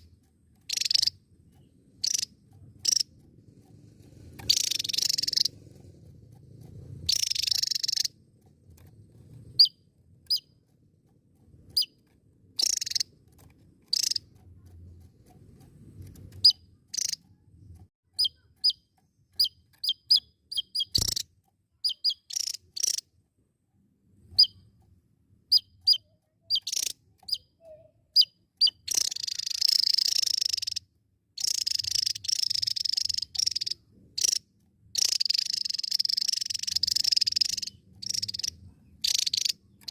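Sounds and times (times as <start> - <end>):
bird chips and buzzy trills: 0.0 - 23.2, 24.2 - 39.9.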